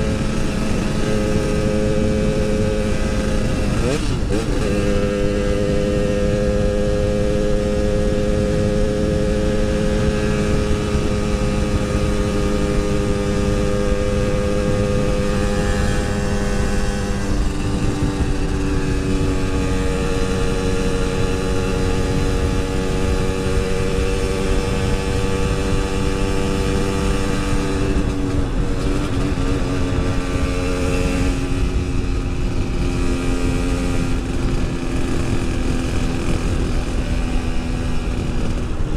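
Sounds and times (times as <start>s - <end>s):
motorcycle two-stroke engine: 0.0s - 38.9s.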